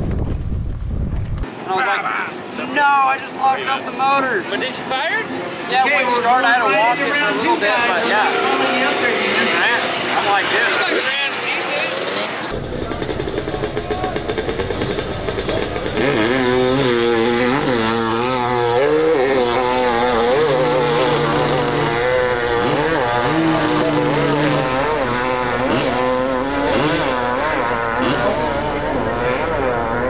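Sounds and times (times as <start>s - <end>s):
dirt bike engine revving: 5.5s - 30.0s.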